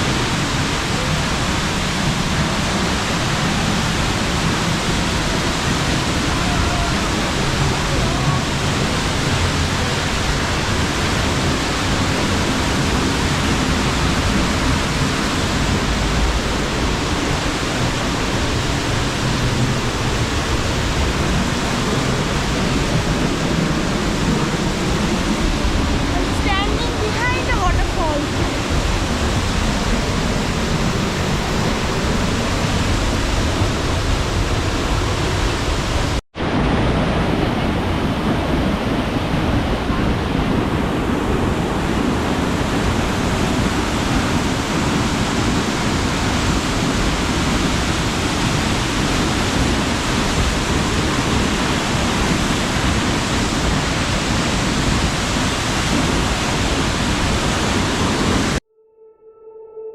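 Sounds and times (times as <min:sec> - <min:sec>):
waterfall rushing: 0:00.0 - 0:58.6.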